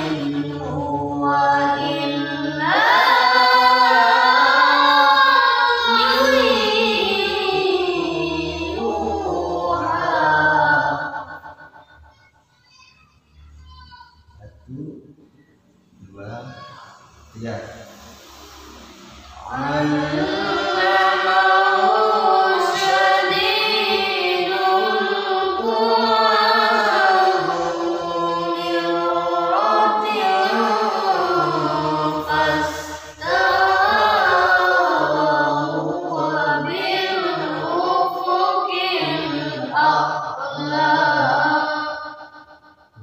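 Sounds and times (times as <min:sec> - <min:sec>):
young person reciting melodically: 0:00.0 - 0:14.7, 0:19.2 - 0:43.0.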